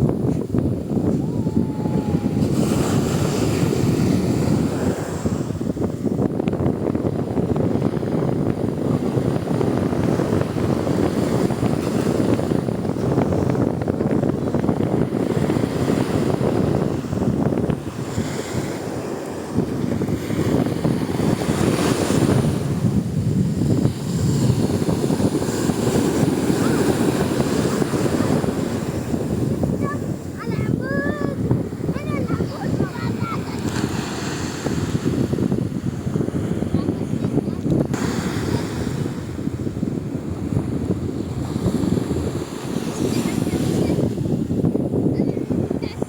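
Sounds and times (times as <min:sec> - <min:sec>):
sea waves washing: 0:00.0 - 0:46.0
wind buffeting microphone: 0:00.0 - 0:46.0.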